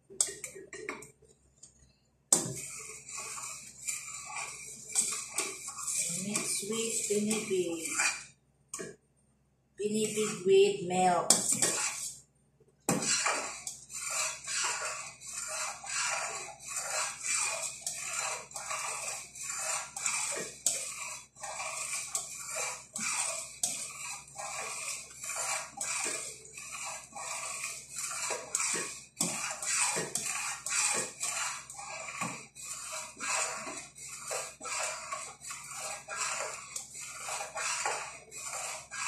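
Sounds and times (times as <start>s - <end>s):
metal spoon scraping pot: 0.1s - 1.0s, 2.3s - 8.9s, 9.8s - 12.2s, 12.9s - 39.0s.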